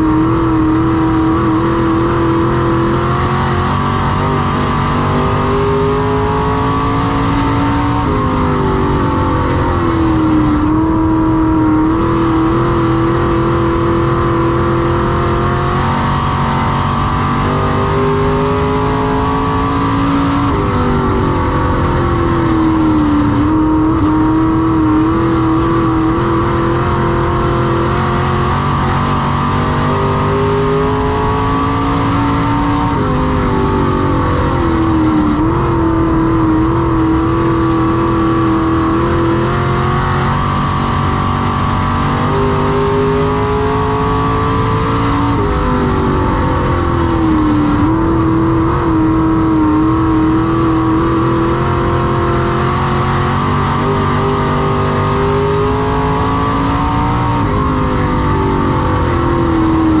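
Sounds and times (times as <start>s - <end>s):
race car engine revving: 0.0s - 60.0s.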